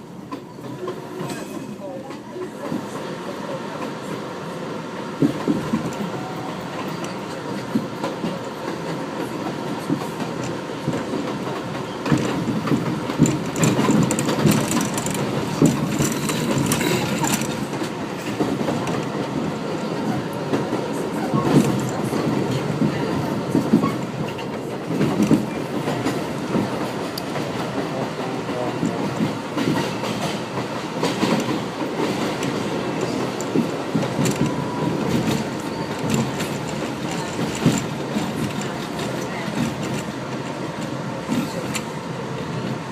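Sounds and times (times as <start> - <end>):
subway train rumbling: 0.0 - 42.9.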